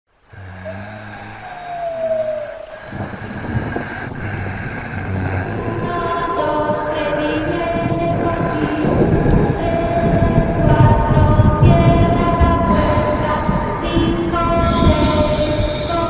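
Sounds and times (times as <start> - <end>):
low drone: 0.1 - 16.0
rumbling with held tones: 0.2 - 16.0.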